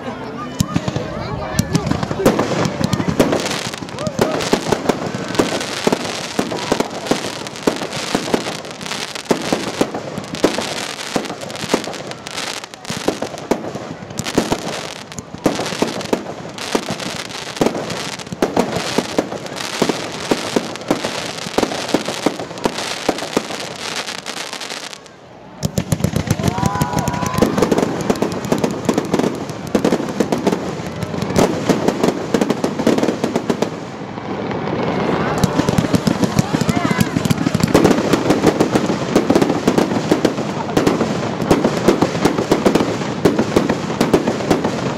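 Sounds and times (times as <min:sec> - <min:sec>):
fireworks crackling and bangs: 0:00.0 - 0:44.9.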